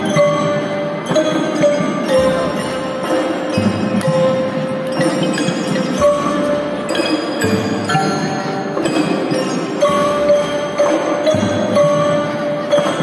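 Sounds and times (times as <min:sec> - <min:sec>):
marimbas and xylophones: 0:00.0 - 0:13.0.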